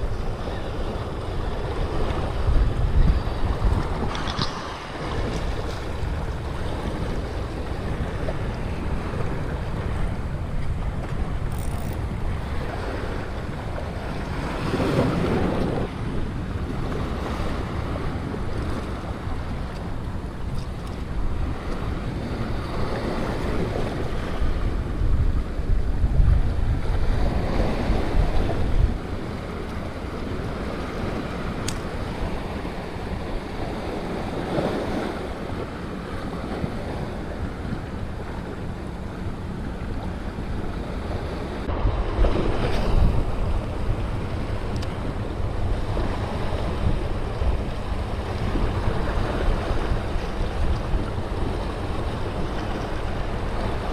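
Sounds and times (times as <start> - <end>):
surf washing over rocks: 0.0 - 53.9
wind buffeting microphone: 0.0 - 53.9.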